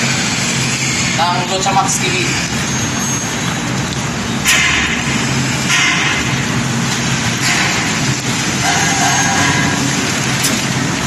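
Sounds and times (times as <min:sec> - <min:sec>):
road and wind noise: 0:00.0 - 0:11.0
vehicle engine hum: 0:00.0 - 0:11.0.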